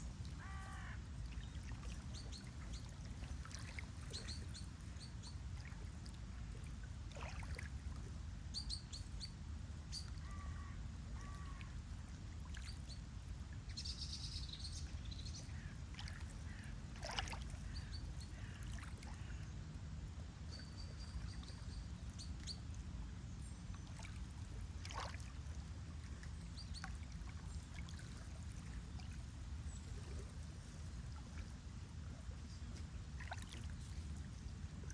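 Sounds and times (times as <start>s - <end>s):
low wash of water: 0.0s - 34.9s.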